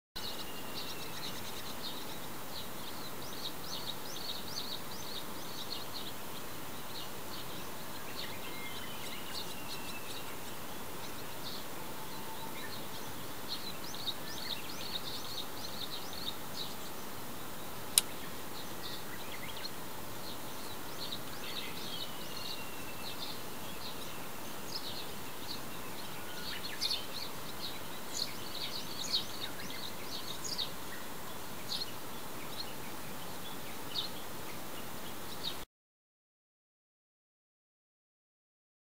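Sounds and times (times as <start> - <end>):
steady background hiss: 0.2 - 35.6
small birds chirping: 0.2 - 35.7.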